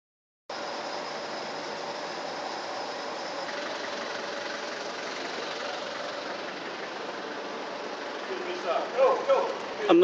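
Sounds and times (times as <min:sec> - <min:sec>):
vehicle engine idling: 0:00.5 - 0:10.0.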